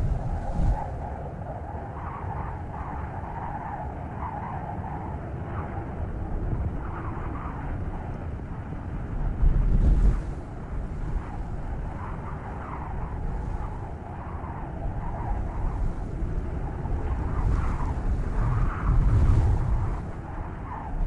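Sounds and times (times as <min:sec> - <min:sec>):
snowstorm wind blowing: 0:00.0 - 0:21.0.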